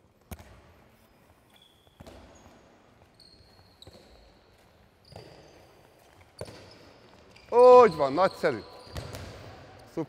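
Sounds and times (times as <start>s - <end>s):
shoe squeaks on court: 1.0s - 9.6s.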